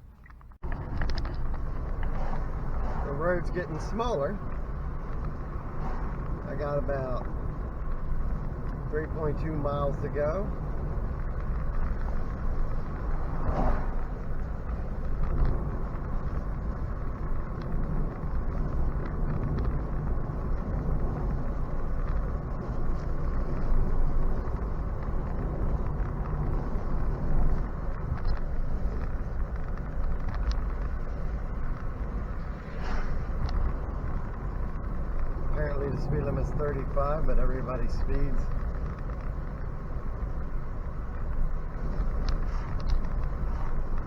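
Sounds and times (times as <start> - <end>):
low rumble of moving car: 0.0 - 44.0
road and tyre noise: 0.0 - 44.0.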